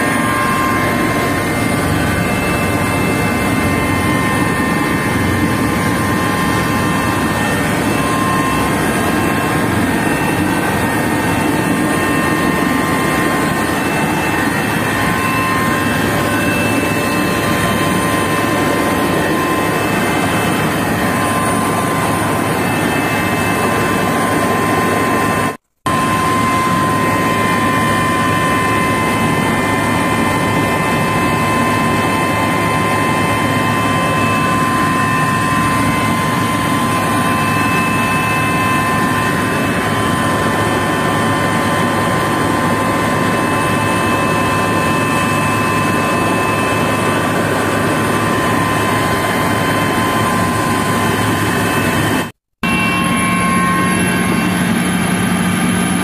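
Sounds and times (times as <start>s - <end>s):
helicopter turbine whine: 0.0s - 56.0s
high steady tone: 0.0s - 56.0s
rotor drone: 0.0s - 56.0s.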